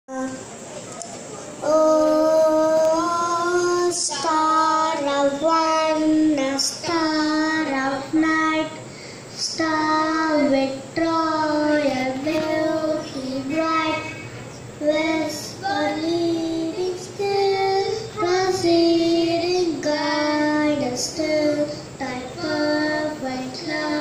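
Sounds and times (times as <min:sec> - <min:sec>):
children singing: 0:01.6 - 0:08.8, 0:09.4 - 0:24.0.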